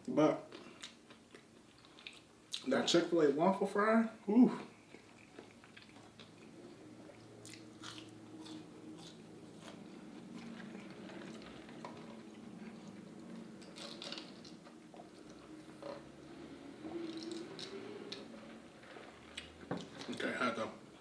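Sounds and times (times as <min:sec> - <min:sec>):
person chewing food: 0:00.5 - 0:02.7, 0:04.5 - 0:20.2.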